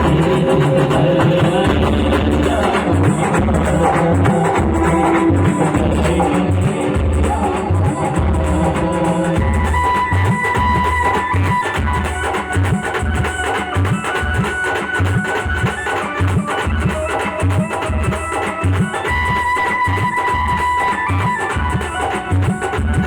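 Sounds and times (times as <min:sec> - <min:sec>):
steady drum beat: 0:00.0 - 0:23.0.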